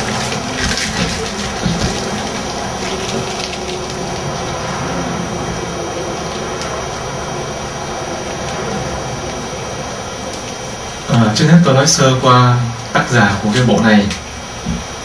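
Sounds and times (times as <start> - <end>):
low hum: 0.0 - 15.0
steady hiss: 0.0 - 15.0.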